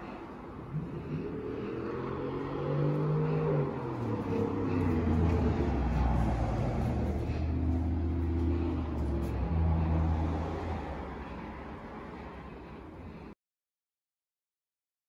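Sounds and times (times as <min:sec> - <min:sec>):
engine droning: 0:00.0 - 0:13.4.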